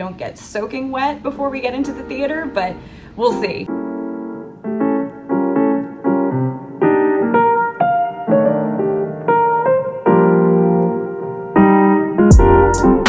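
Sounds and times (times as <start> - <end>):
piano playing chords: 1.2 - 13.0.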